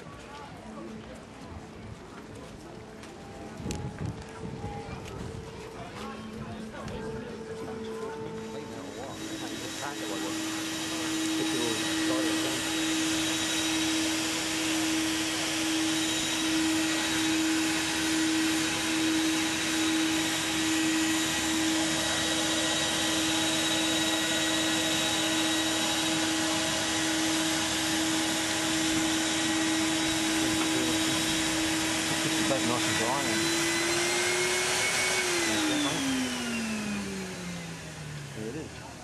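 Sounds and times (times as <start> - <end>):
electric air blower humming: 2.8 - 39.0.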